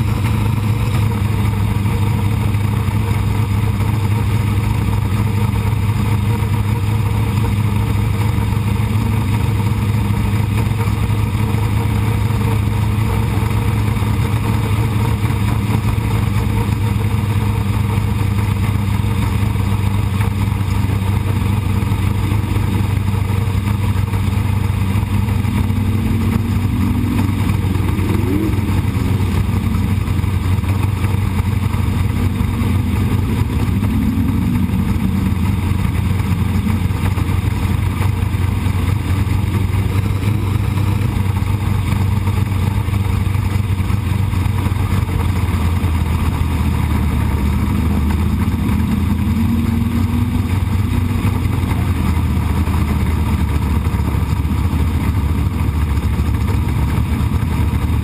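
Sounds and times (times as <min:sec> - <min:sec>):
race car engine droning: 0:00.0 - 0:58.0.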